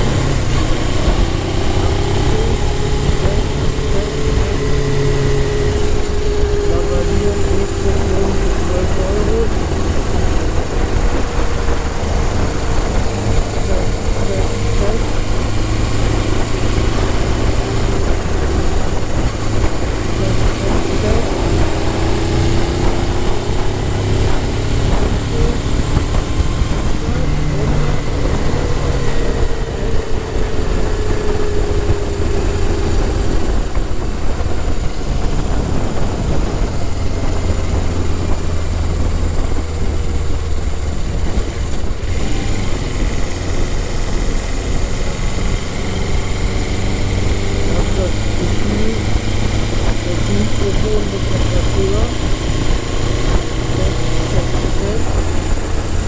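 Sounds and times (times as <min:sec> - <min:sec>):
motorcycle engine: 0:00.0 - 0:56.0
wind and road noise: 0:00.0 - 0:56.0.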